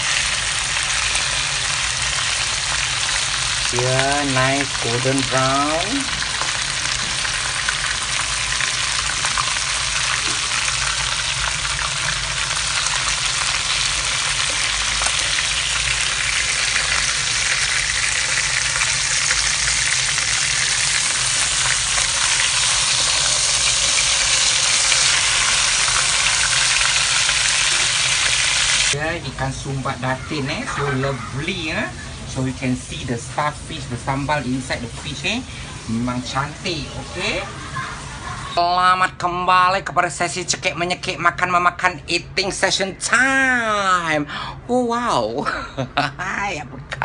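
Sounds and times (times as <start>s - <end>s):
fish sizzling in hot oil: 0.0s - 38.5s.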